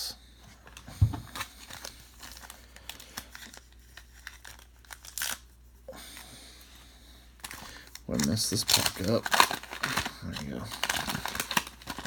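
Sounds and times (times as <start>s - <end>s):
foil wrapper crinkling and tearing: 0.6s - 6.3s, 7.4s - 12.0s.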